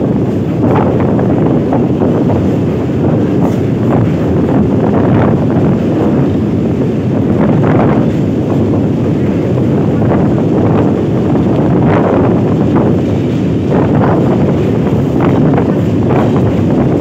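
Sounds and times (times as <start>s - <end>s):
rail clatter: 0.0s - 17.0s
train wheels rumbling: 0.0s - 17.0s
wind buffeting microphone: 0.0s - 17.0s.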